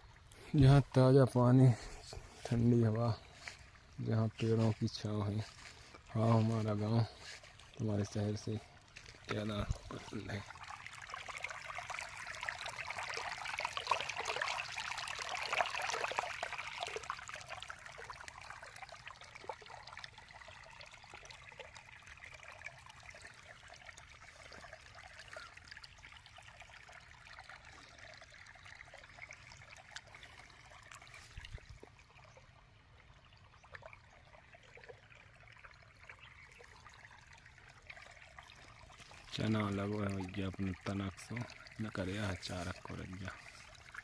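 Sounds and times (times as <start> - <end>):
water trickling: 0.0 - 44.0.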